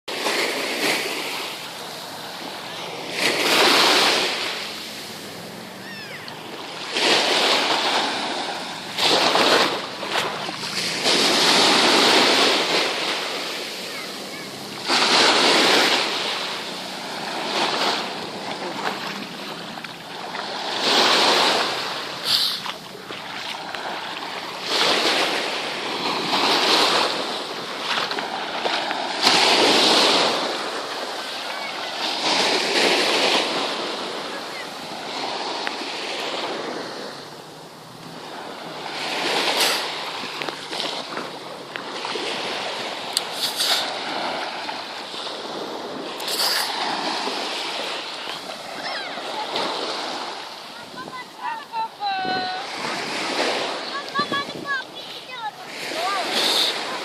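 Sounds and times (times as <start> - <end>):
sea waves breaking on shore: 0.1 - 57.0.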